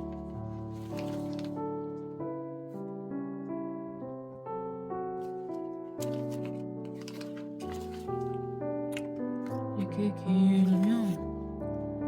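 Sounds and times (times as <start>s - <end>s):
soft slow piano melody: 0.0s - 12.0s.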